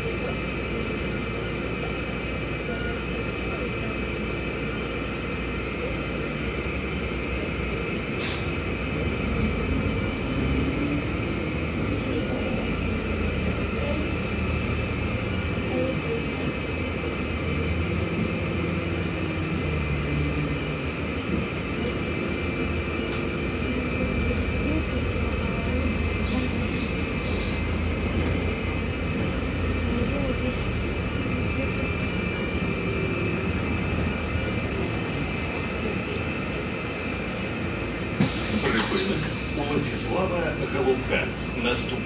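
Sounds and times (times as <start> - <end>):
bus engine and drivetrain: 0.0 - 42.0
road rumble: 0.0 - 42.0.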